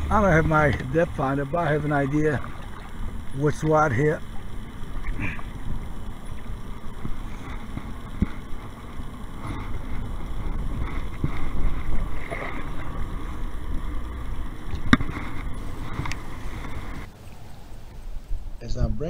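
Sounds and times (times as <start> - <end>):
water and wind rumble: 0.0 - 19.0.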